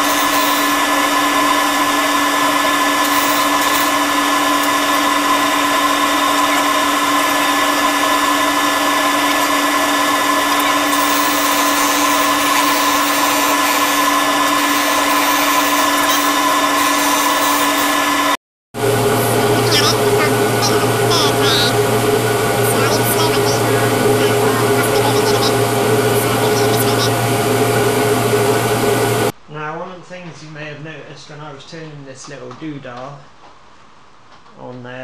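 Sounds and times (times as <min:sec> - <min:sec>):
disc sander whining: 0:00.0 - 0:29.3.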